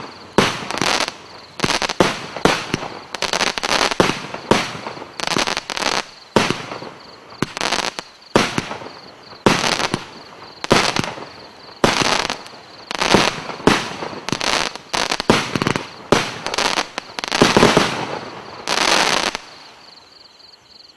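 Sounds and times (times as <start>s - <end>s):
firework bangs with crackling: 0.0s - 19.8s.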